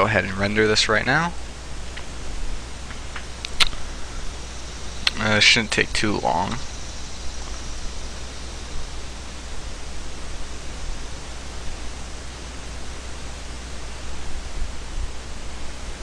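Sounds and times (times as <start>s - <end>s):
low hum: 0.0s - 16.0s
steady hiss: 0.0s - 16.0s.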